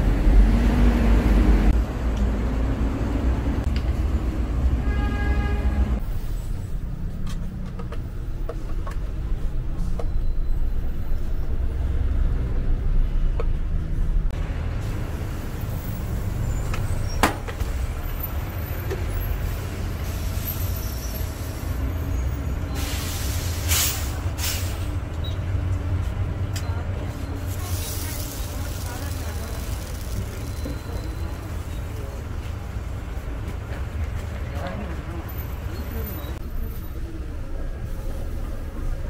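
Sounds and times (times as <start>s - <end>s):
buses passing: 0.0s - 39.0s
road traffic rumble: 0.0s - 39.0s.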